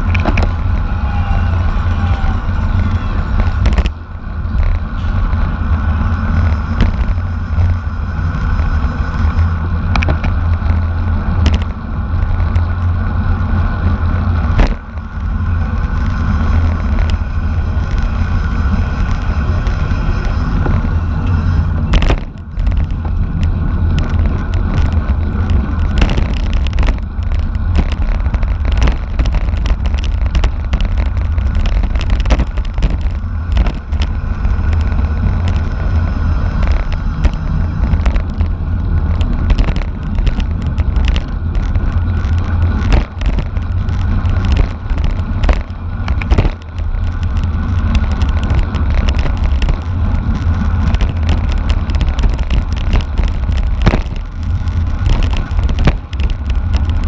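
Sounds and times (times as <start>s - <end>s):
wind rush and road noise: 0.0s - 57.0s.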